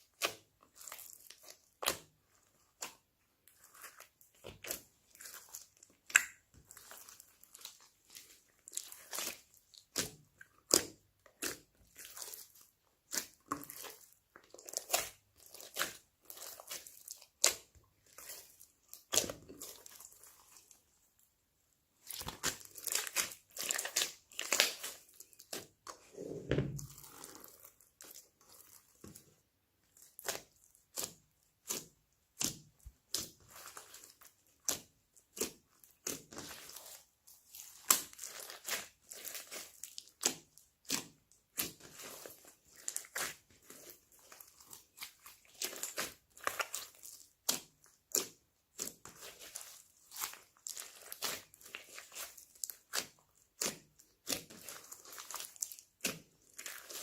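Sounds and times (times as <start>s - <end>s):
slime squished by hand: 0.0s - 20.8s, 22.0s - 29.2s, 29.8s - 57.0s.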